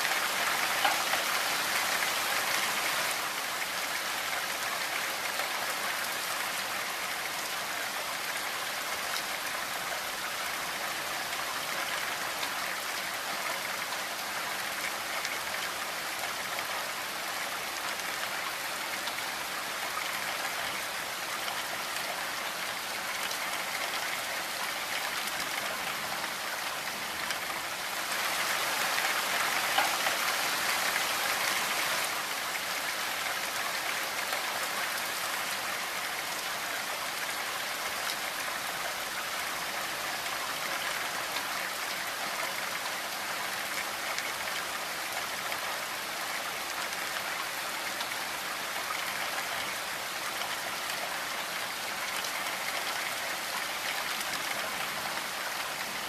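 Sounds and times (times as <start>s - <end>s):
rain pattering on window and roof: 0.0s - 56.0s.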